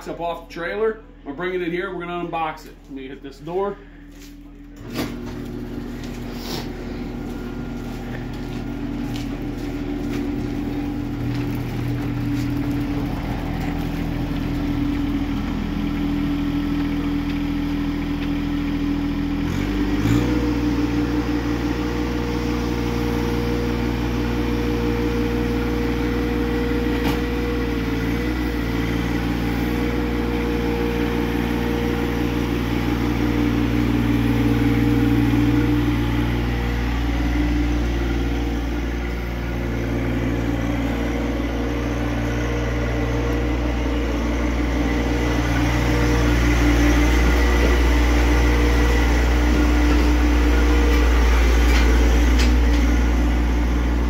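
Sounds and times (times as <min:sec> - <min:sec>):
tractor diesel engine revving: 0:04.6 - 0:54.0.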